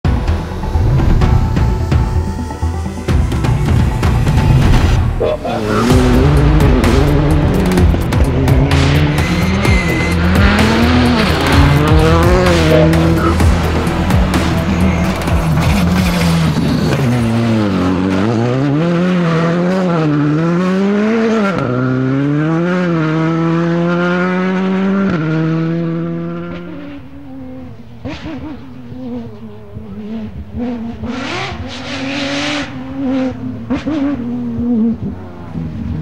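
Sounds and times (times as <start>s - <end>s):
rally car engine revving: 0.1s - 36.0s.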